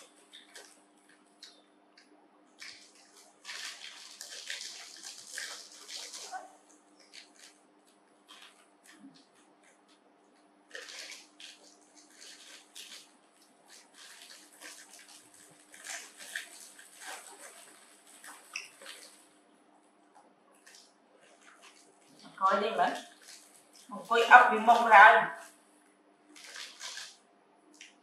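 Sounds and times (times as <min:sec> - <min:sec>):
plastic packet crinkling: 0:00.0 - 0:01.6, 0:02.6 - 0:10.0, 0:10.7 - 0:19.4, 0:20.6 - 0:25.6, 0:26.3 - 0:27.2.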